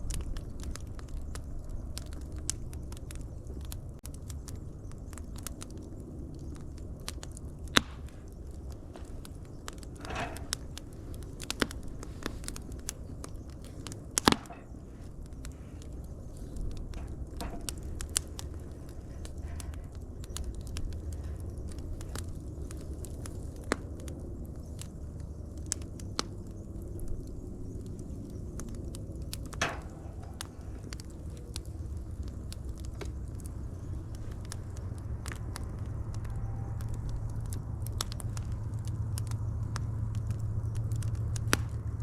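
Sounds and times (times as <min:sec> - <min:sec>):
fire hissing: 0:00.0 - 0:42.0
wood fire crackling: 0:00.0 - 0:42.0.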